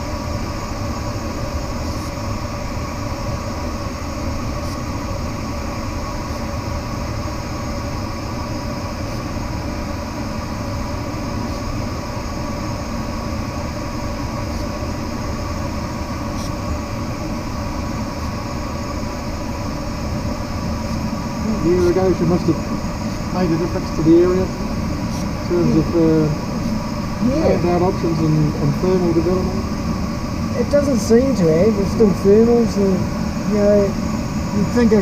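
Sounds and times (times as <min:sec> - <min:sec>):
faint whining tones: 0:00.0 - 0:35.0
rushing airflow over glider: 0:00.0 - 0:35.0.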